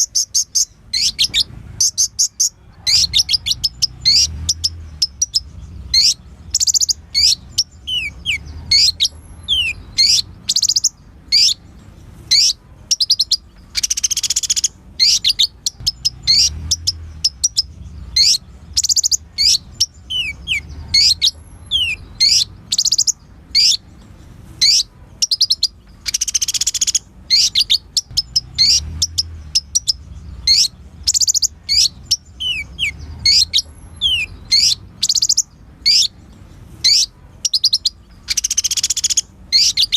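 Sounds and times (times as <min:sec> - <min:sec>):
bird chirping: 0:00.0 - 0:39.9
buzzy bird trill: 0:00.0 - 0:39.9.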